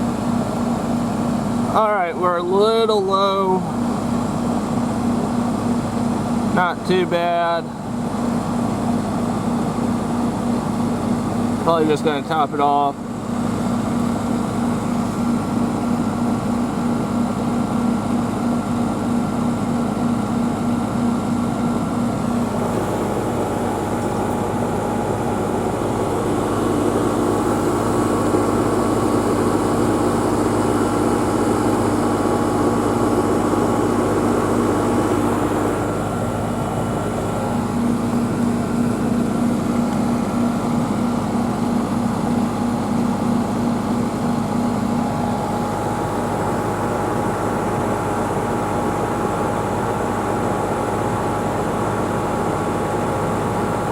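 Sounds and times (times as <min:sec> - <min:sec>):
heat pump humming: 0:00.0 - 0:53.9.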